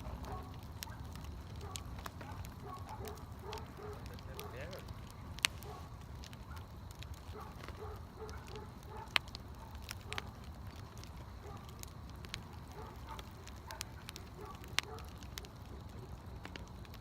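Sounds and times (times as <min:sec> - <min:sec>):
fire pops: 0:00.0 - 0:17.0
wood fire crackling: 0:00.0 - 0:17.0.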